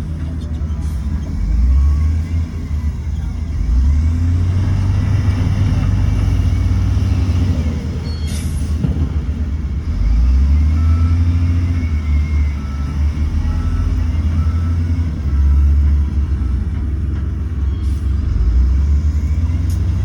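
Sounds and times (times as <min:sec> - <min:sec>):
diesel machinery engine rumble: 0:00.0 - 0:20.0.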